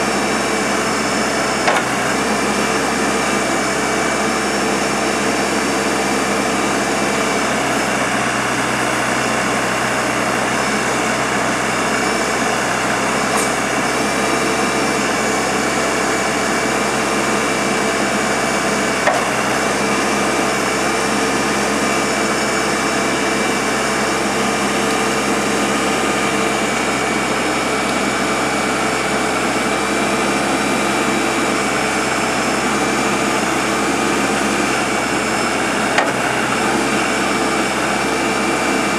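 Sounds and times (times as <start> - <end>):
diesel engine drone: 0.0 - 38.9
steady whine: 0.0 - 38.9.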